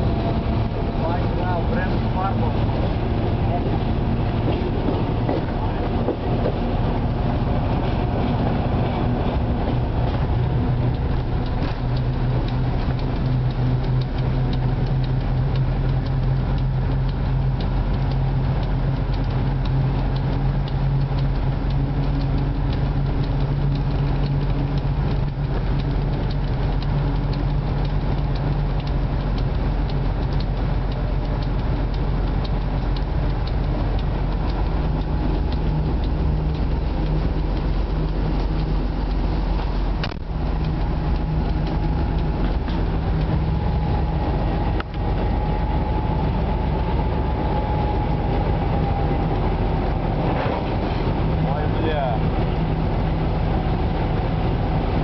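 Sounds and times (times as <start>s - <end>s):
locomotive diesel engine running: 0.0s - 55.0s
wheel and rail noise: 0.0s - 55.0s.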